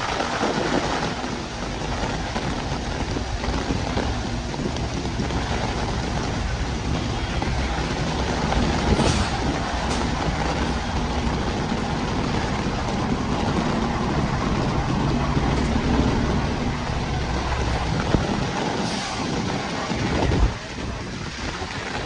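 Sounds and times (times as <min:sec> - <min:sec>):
heavy rain hissing: 0:00.0 - 0:22.0
passing train rumble: 0:00.0 - 0:22.0.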